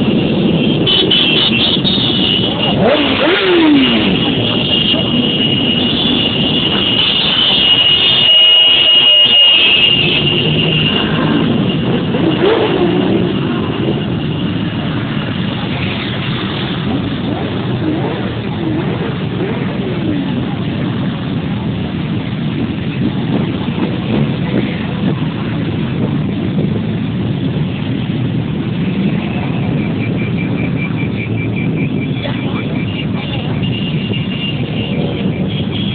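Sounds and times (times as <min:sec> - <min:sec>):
many motorcycle engines running: 0:00.0 - 0:35.9
motorcycle revving: 0:00.0 - 0:35.9.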